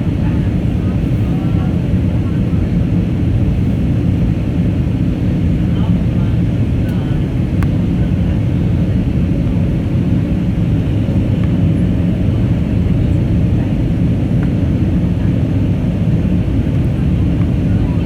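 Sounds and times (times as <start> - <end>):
airplane cabin engine and airflow noise: 0.0 - 18.0.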